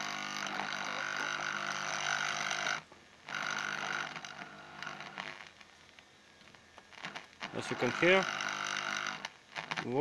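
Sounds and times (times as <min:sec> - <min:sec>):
electrical buzz from speaker: 0:00.0 - 0:10.0.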